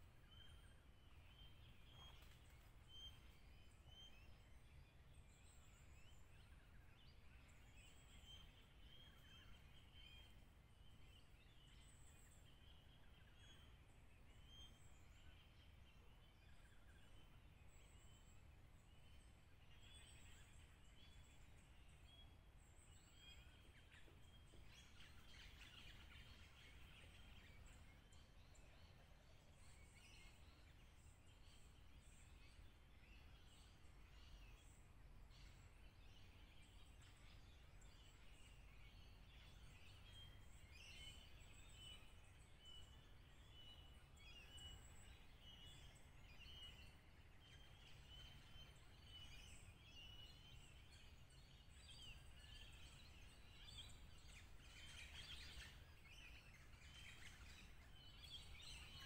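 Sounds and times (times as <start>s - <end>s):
faint bird chirps: 0.0s - 59.0s.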